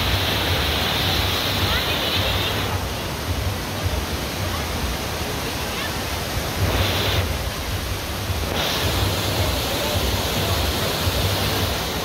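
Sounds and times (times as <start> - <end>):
waterfall splashing over rocks: 0.0 - 12.0.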